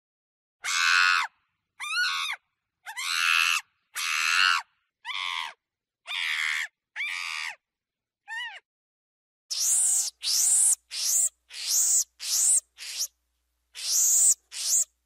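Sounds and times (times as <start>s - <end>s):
monkey screaming: 0.6s - 7.6s, 8.3s - 8.6s, 9.5s - 13.1s, 13.8s - 14.9s.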